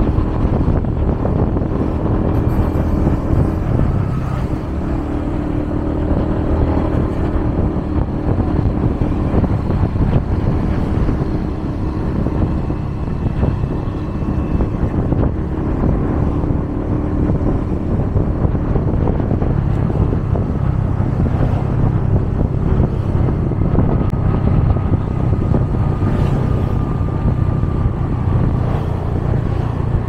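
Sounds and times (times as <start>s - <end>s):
road traffic noise: 0.0s - 30.0s
wind on microphone: 0.0s - 30.0s.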